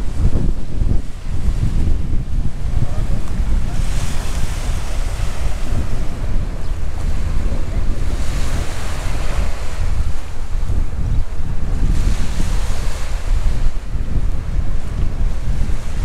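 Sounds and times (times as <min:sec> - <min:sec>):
waves washing onto gravel beach: 0:00.0 - 0:16.0
wind rumble on microphone: 0:00.0 - 0:16.0.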